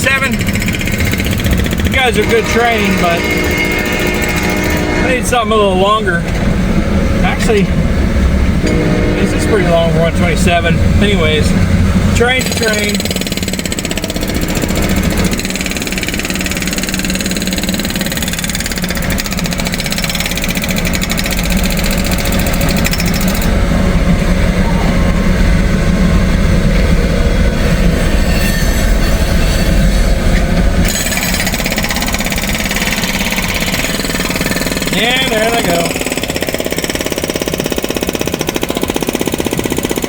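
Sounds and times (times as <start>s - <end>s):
wheels clattering rhythmically: 0.0s - 4.9s, 10.9s - 28.3s, 30.1s - 40.0s
freight train rumbling past: 0.0s - 40.0s.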